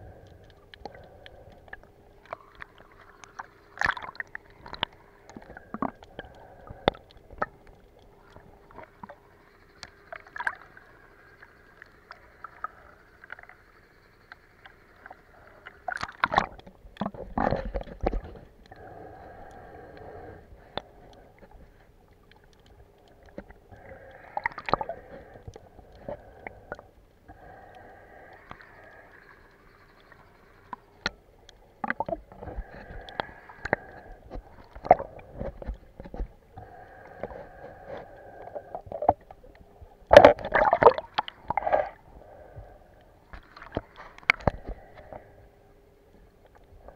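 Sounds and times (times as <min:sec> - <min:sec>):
steady hum: 0:00.0 - 0:46.9
underwater clicks and crackles: 0:00.0 - 0:46.9.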